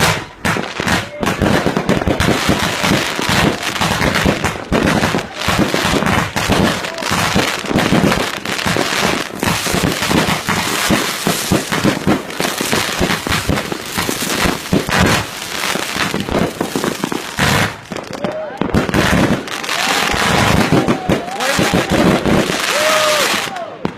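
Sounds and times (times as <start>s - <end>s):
fireworks banging rapidly: 0.0s - 23.9s.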